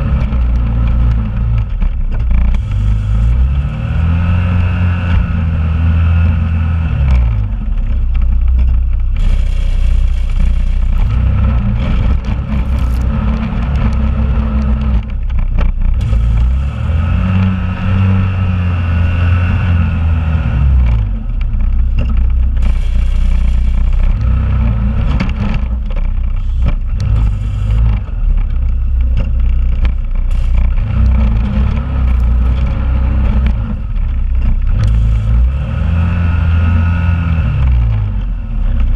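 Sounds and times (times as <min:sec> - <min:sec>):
atv engine running hard: 0:00.0 - 0:38.9.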